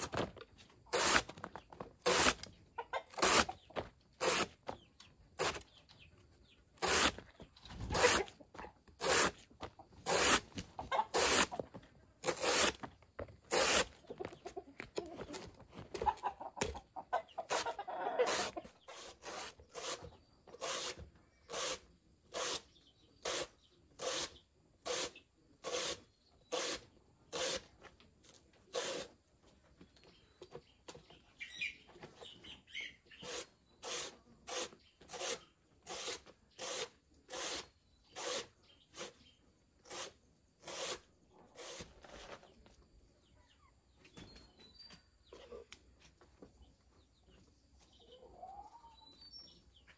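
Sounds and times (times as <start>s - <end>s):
chicken clucking: 0.0s - 12.2s, 13.0s - 37.3s, 40.4s - 49.9s.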